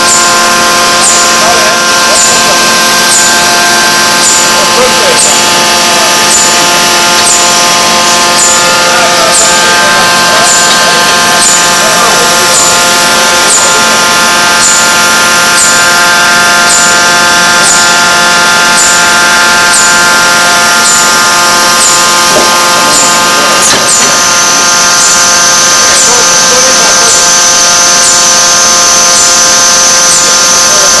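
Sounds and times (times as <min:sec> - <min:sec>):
forging machine humming: 0:00.0 - 0:31.0.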